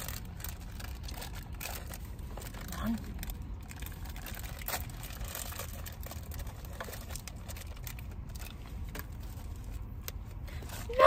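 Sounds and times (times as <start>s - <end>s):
plastic packet tearing: 0.0s - 9.8s
faint crinkles and clicks: 0.0s - 10.4s
low rumble inside car: 0.0s - 11.0s.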